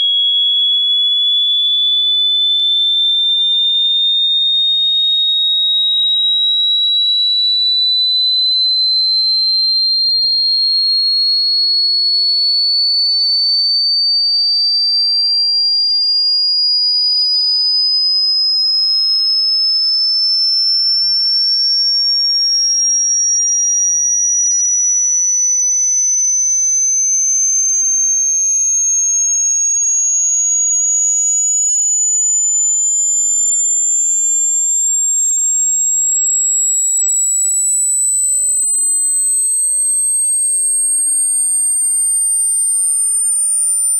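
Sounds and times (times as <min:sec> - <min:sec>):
rising sine test tone: 0:00.0 - 0:43.9.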